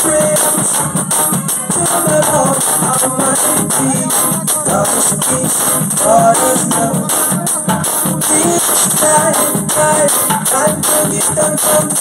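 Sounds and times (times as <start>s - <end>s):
music with repeating beat: 0.0s - 12.0s.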